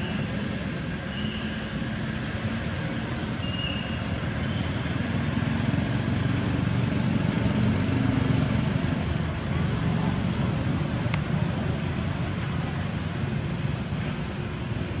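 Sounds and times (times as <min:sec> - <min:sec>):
motor traffic rumble: 0:00.0 - 0:15.0.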